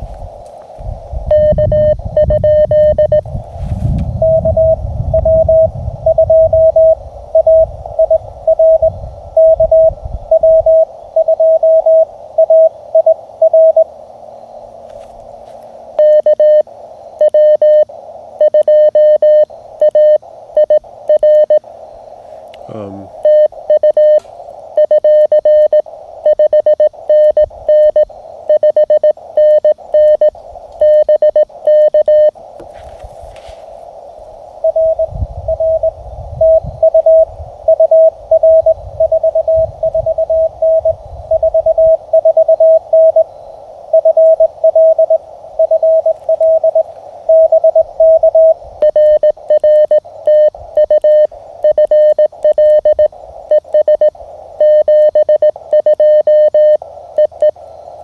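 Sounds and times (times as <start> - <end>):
receiver hiss: 0.0 - 58.0
morse code tone: 1.3 - 13.9, 16.0 - 21.6, 23.2 - 32.4, 34.6 - 58.0.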